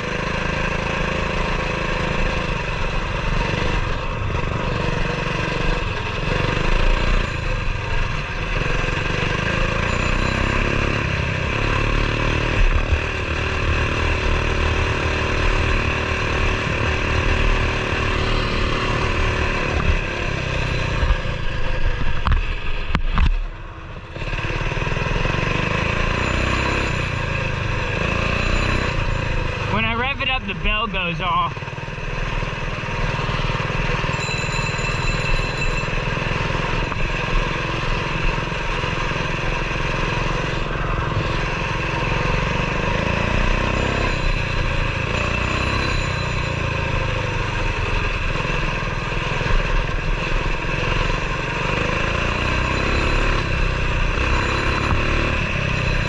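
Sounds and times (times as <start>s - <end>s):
mini bike engine revving: 0.0s - 23.3s, 24.0s - 56.0s.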